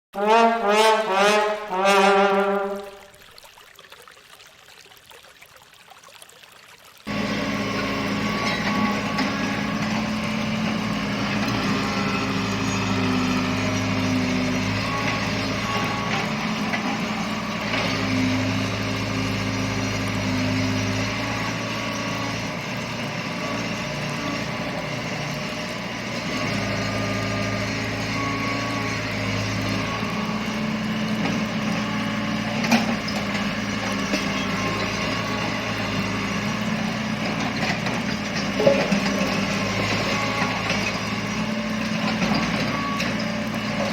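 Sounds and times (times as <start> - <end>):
excavator diesel engine droning: 0.2 - 3.0, 7.1 - 43.9.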